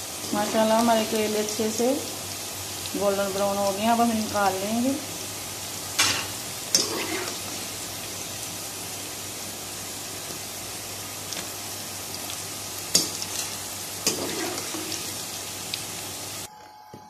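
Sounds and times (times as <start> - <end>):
vegetable slices sizzling in ghee: 0.0 - 16.5.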